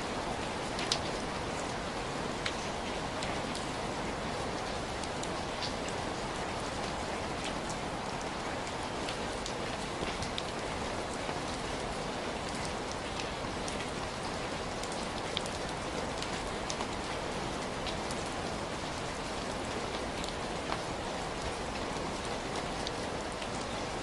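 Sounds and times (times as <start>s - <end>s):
raindrops ticking on a surface: 0.1s - 24.0s.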